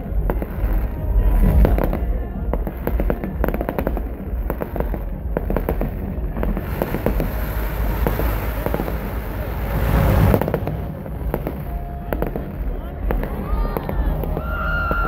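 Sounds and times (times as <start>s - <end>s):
fireworks hissing rush: 0.0s - 15.0s
fireworks popping and crackling: 0.0s - 15.0s.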